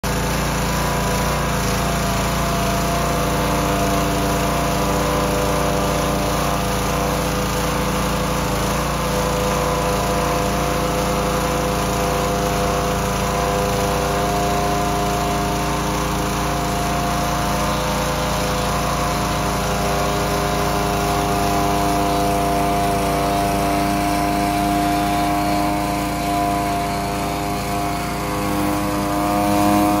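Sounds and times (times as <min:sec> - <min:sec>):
motor and pump drone: 0:00.0 - 0:30.0
spray bar hissing: 0:02.8 - 0:30.0.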